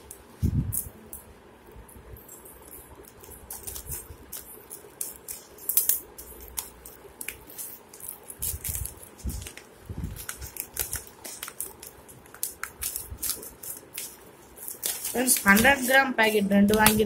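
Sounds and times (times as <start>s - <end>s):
plastic wrapping crinkling: 1.7s - 17.0s.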